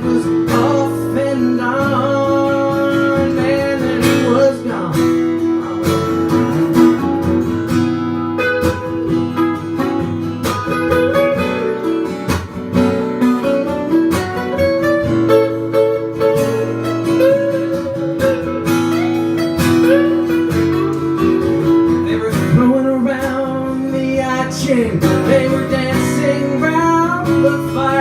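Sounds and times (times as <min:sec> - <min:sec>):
lead guitar with bent notes: 0:00.0 - 0:28.0
strummed acoustic guitar: 0:00.0 - 0:28.0.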